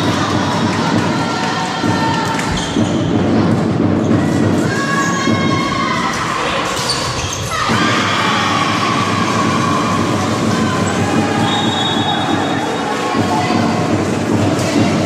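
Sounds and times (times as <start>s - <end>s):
crowd cheering and shouting: 0.0s - 15.0s.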